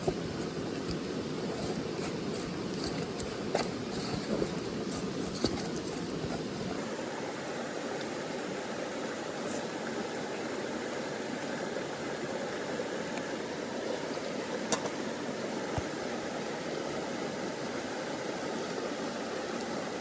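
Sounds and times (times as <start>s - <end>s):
river flowing: 0.0s - 20.0s.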